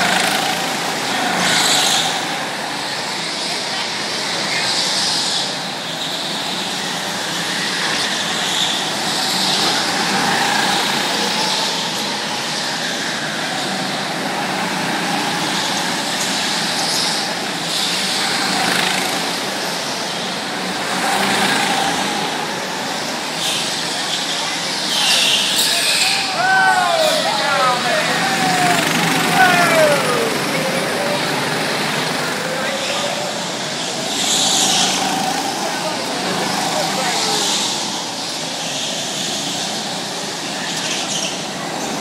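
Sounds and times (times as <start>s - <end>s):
go-kart engines passing: 0.0s - 42.0s.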